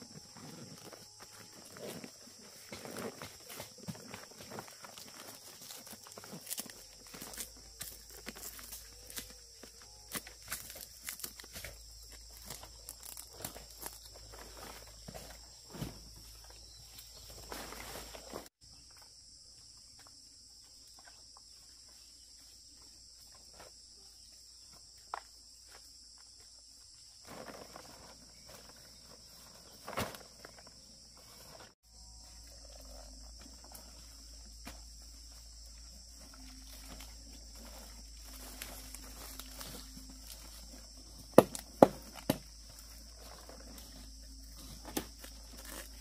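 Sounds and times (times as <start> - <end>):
rustles: 0.0 - 18.5, 27.1 - 46.0
insects chirring: 0.0 - 46.0.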